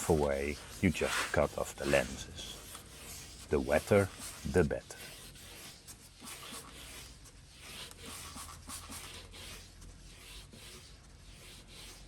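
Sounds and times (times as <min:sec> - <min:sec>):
sandpaper rubbing plastic lens: 0:00.0 - 0:12.0.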